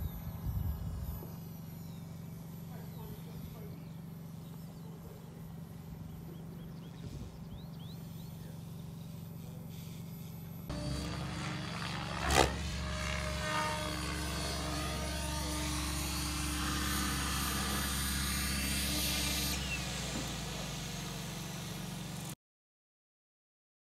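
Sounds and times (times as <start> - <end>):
model helicopter rotor whine: 0.0 - 22.4.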